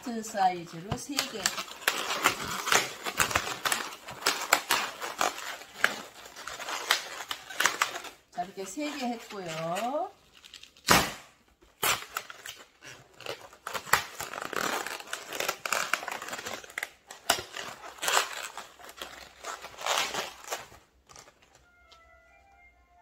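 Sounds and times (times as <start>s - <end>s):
rubber balloon squeaking: 0.0s - 8.3s, 11.9s - 22.7s.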